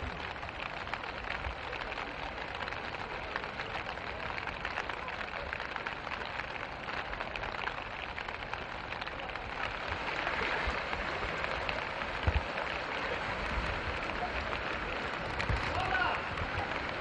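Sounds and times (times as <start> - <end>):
rain and floodwater hiss: 0.0 - 17.0.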